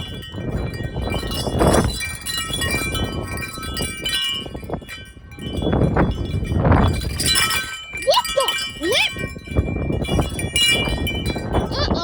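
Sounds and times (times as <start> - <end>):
metal wind chimes clanging: 0.0 - 12.0
wind buffeting microphone: 0.0 - 12.0.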